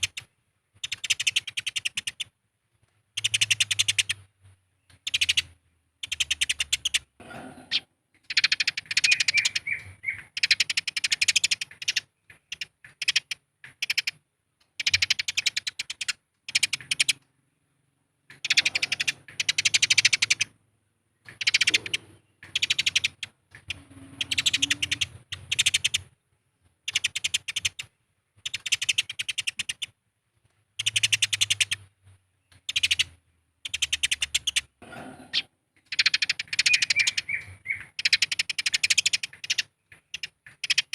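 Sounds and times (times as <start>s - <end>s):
sparrows chattering: 0.0s - 2.4s, 3.1s - 30.0s, 30.7s - 40.9s.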